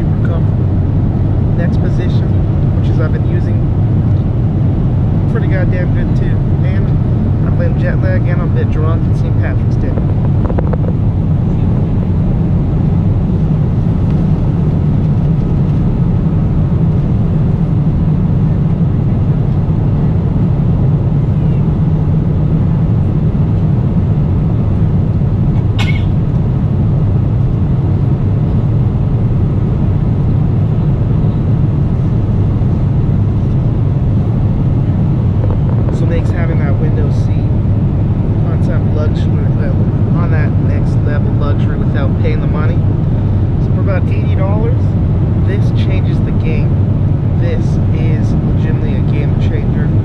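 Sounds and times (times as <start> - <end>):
airliner cabin drone: 0.0 - 50.0.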